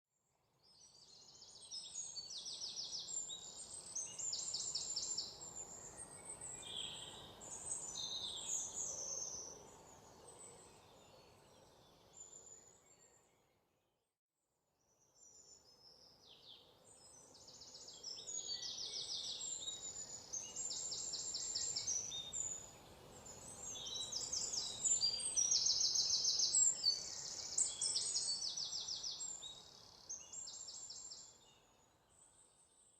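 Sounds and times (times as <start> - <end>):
faint background noise: 0.2 - 13.7, 14.8 - 32.9
songbirds trilling and chirping: 0.7 - 13.2, 15.2 - 32.9.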